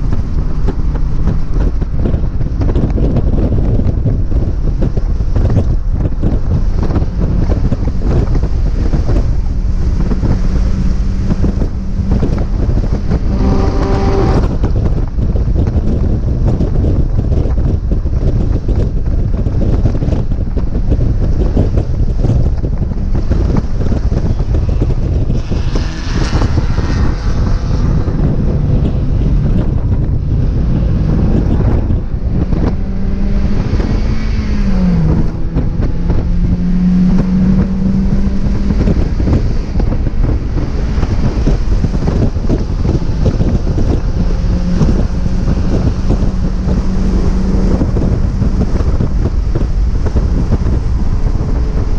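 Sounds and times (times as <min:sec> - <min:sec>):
car engine revving: 0:00.0 - 0:51.9
wind buffeting microphone: 0:00.0 - 0:51.9.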